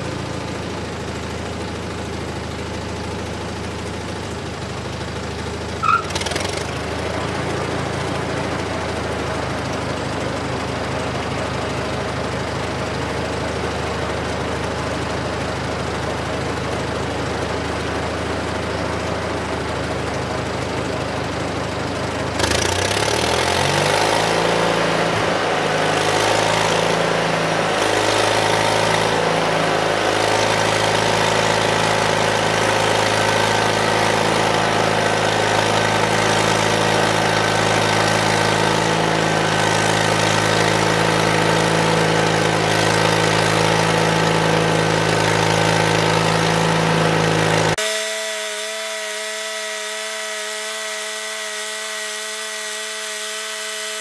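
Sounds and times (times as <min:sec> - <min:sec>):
gasoline engine idling and revving: 0:00.0 - 0:54.0.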